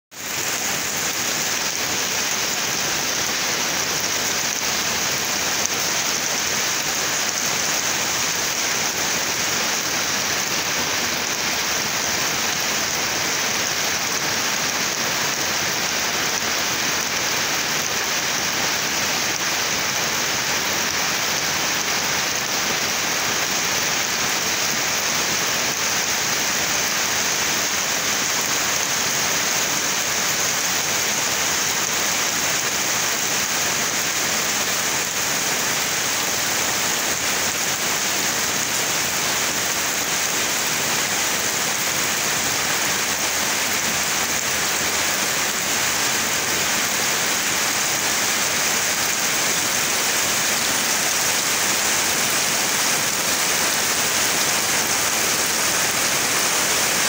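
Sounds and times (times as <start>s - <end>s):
heavy rain through trees: 0.1s - 57.0s.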